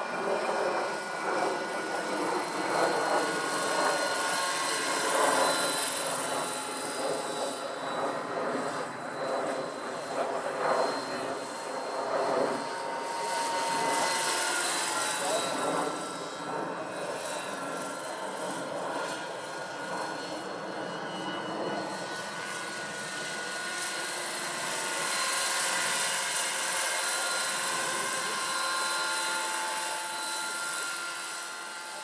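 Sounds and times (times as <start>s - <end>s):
model helicopter rotor whine: 0.0s - 32.0s.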